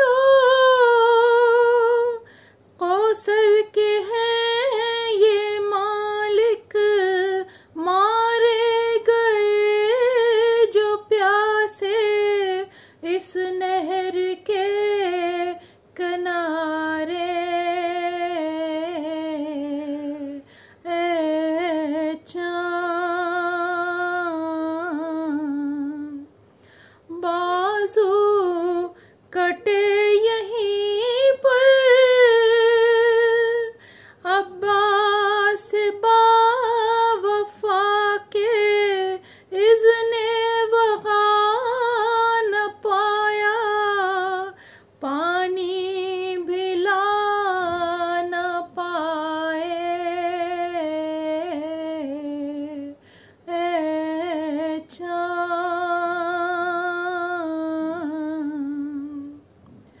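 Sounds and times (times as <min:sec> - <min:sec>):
woman singing unaccompanied: 0:00.0 - 0:26.4, 0:27.1 - 0:59.5.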